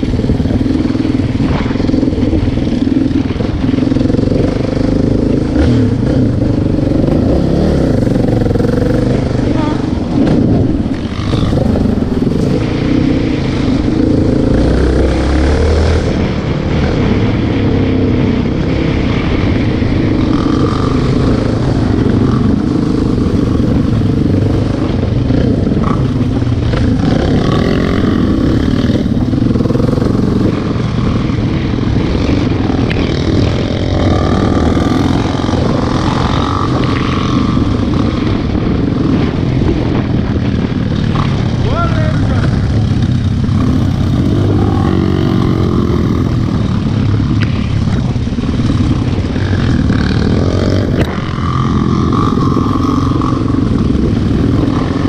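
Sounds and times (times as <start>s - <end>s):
quad bike engines revving: 0.0s - 55.0s.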